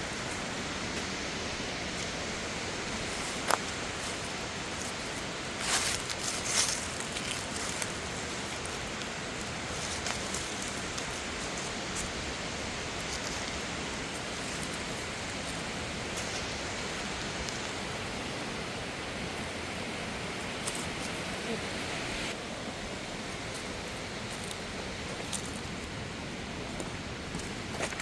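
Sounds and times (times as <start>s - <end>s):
stream and waterfall rushing: 0.0s - 28.0s.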